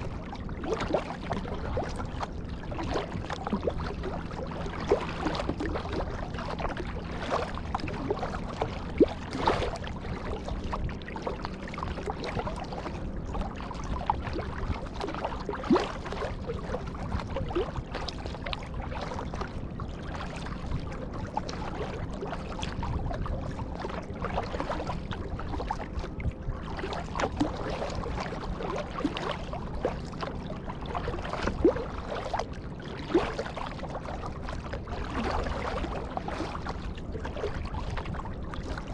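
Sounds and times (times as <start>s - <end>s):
paddle splashing through water: 0.0s - 38.9s
steady low rumble: 0.0s - 38.9s.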